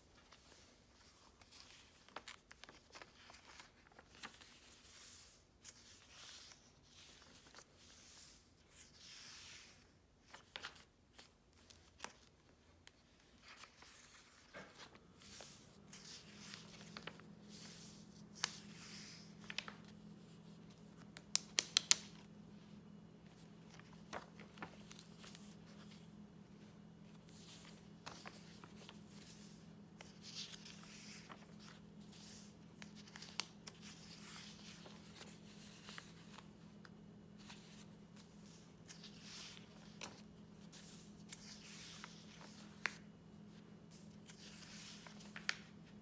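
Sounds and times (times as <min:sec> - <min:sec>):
low steady hum: 0:00.0 - 0:46.0
paper pages rustling: 0:00.0 - 0:46.0.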